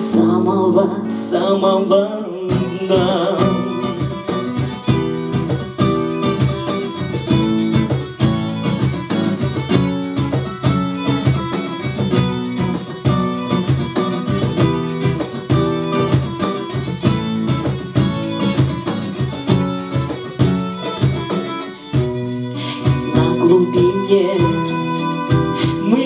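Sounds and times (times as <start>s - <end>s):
strummed acoustic guitar: 0.0s - 26.0s
violin line: 0.0s - 26.0s
hand percussion beat: 2.5s - 26.0s.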